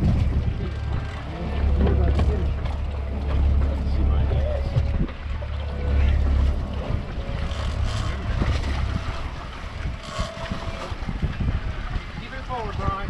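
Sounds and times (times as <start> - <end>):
water sloshing against boat hull: 0.0 - 13.0
wind buffeting microphone: 0.0 - 13.0.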